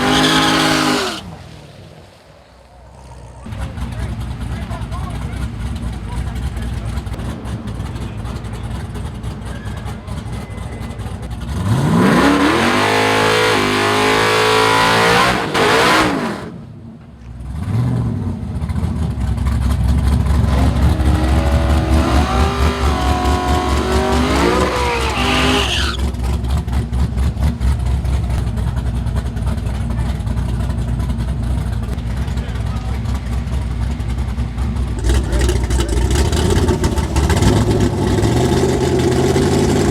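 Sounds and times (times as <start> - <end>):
deep pulsing engine rumble: 0.0 - 13.3, 16.6 - 39.9
car engine accelerating: 0.0 - 39.9.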